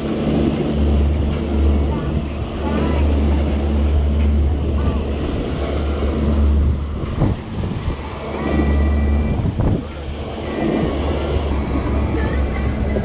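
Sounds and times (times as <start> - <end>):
boat wake washing: 0.0 - 13.0
outboard engines running: 0.0 - 13.0
wind buffeting microphone: 0.0 - 13.0.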